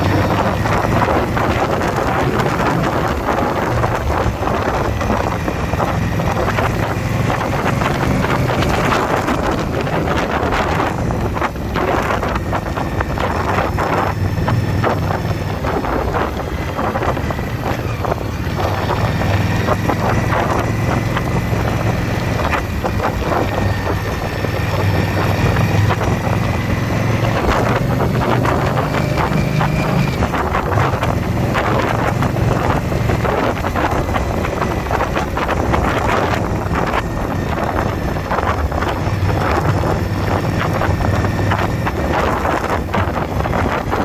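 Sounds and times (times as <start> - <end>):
motorcycle engine cruising: 0.0 - 44.0
wind buffeting microphone: 0.0 - 44.0.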